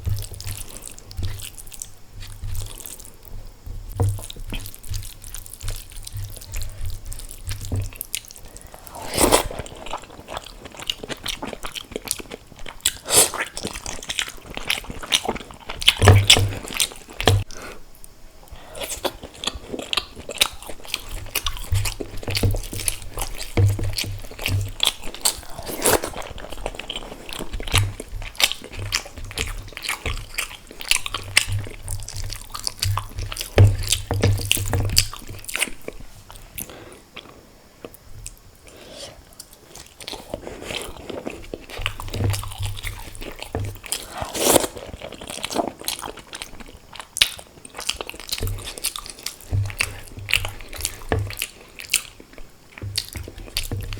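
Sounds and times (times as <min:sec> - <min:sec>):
close-miked chewing: 0:00.0 - 0:53.9.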